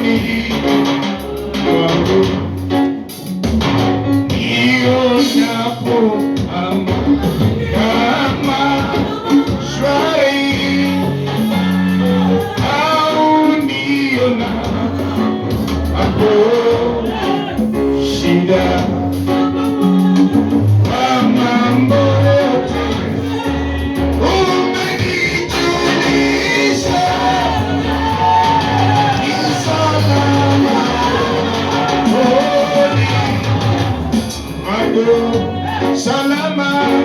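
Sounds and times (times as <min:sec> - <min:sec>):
voices singing worship music: 0:00.0 - 0:03.3, 0:04.2 - 0:37.0
band playing: 0:00.0 - 0:37.0.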